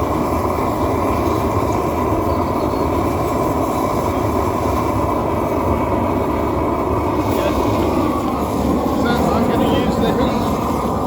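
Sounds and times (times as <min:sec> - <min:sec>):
gas torch burning: 0:00.0 - 0:11.0.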